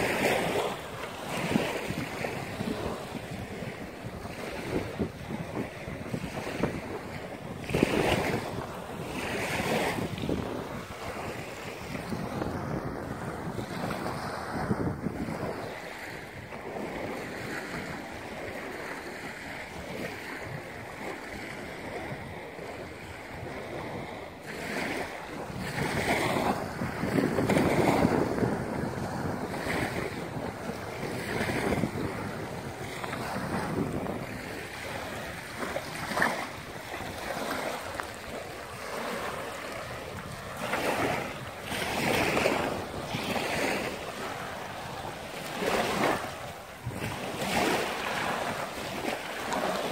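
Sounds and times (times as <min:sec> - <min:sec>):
small waves breaking on shore: 0:00.0 - 0:49.9
wind on microphone: 0:00.0 - 0:49.9.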